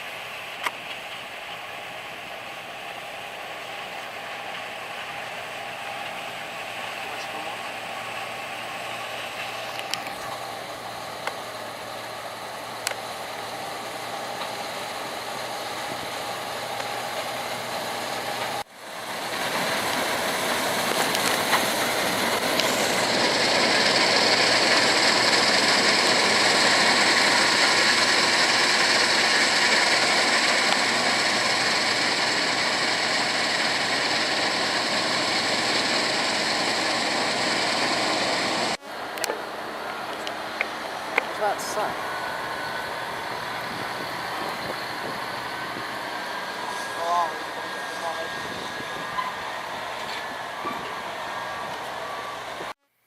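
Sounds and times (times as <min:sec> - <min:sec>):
heavy machinery running: 0:00.0 - 0:52.8.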